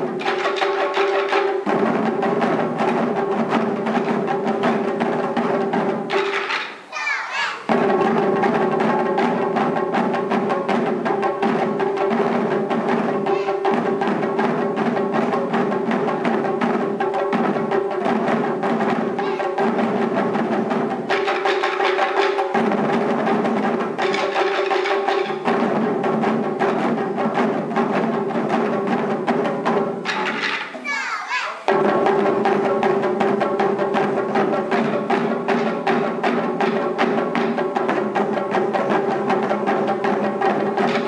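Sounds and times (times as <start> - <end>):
taiko drums rapid strikes: 0.0 - 41.0.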